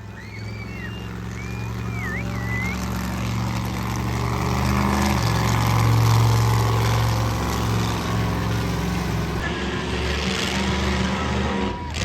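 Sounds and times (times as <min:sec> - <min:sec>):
monster truck engine running: 0:00.0 - 0:12.0.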